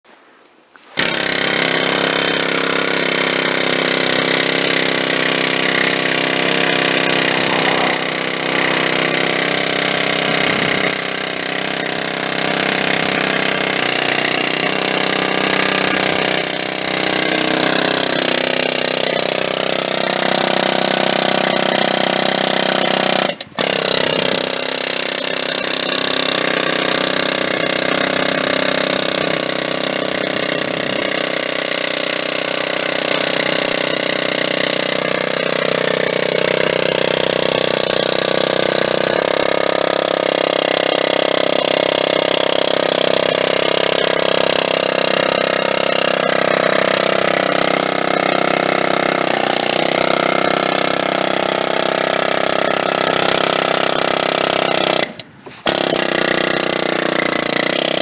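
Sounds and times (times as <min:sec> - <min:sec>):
pneumatic air hammer pounding metal rod: 0:01.0 - 0:58.0.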